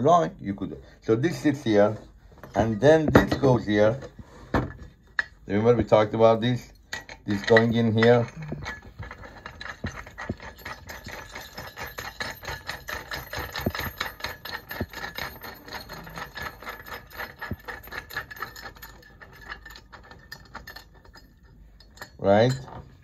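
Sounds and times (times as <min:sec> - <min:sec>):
metallic clicking and rattling: 0:02.4 - 0:23.0.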